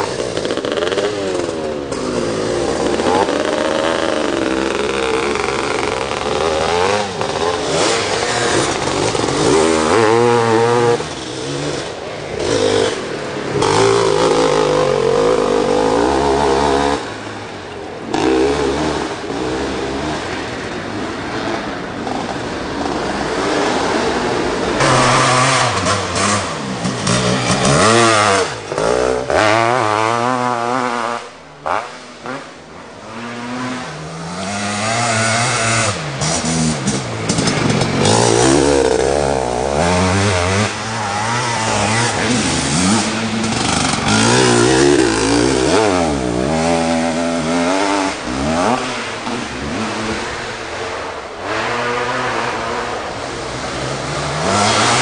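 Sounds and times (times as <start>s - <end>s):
motocross motorcycles revving: 0.0s - 55.0s.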